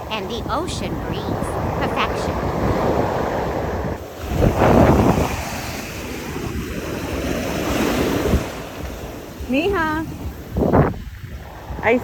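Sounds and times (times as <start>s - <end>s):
ocean surf washing onto beach: 0.0s - 12.0s
wind rumbling on microphone: 0.0s - 12.0s.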